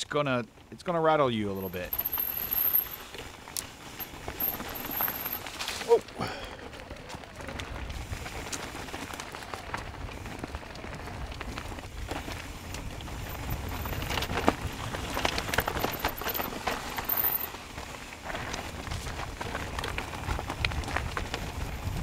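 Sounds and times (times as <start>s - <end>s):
bike tyres crunching over dirt: 0.0s - 22.0s.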